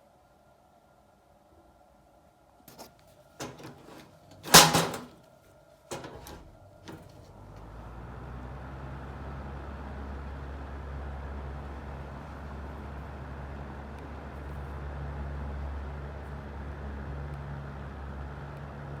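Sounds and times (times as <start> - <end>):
ventilation fan humming: 2.7 - 18.8.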